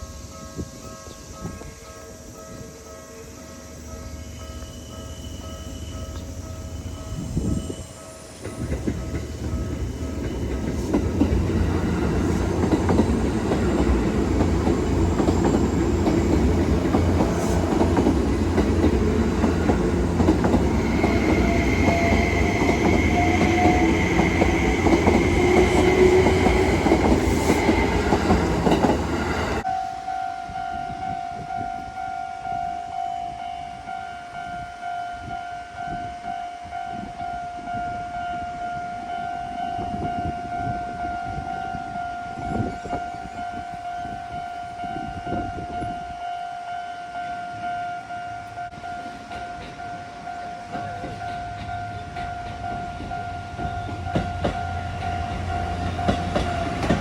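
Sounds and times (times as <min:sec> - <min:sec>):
electric train running past: 0:00.0 - 0:57.0
level crossing warning bell: 0:00.3 - 0:57.0.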